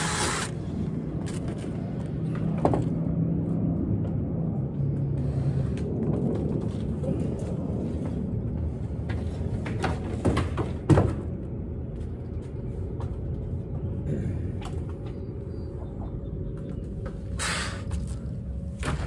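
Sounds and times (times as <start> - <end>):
low machine rumble: 0.0 - 19.0.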